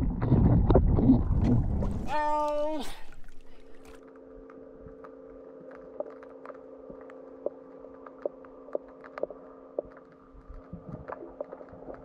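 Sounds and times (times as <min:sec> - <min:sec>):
low underwater hum: 0:00.0 - 0:12.0.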